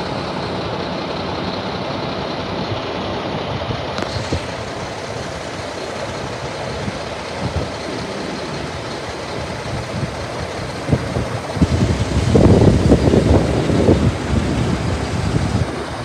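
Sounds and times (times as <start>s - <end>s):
diesel truck engines running: 0.0s - 16.0s.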